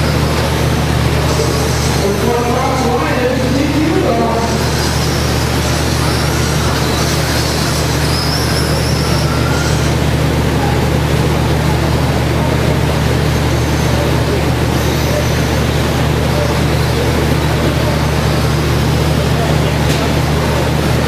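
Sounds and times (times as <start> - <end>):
high-pitched motor whines: 0.0 - 21.0
steady low hum: 0.0 - 21.0.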